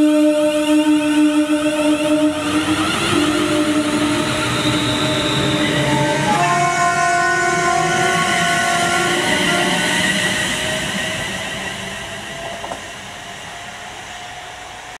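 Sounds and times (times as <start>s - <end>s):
electric train accelerating: 0.0s - 15.0s.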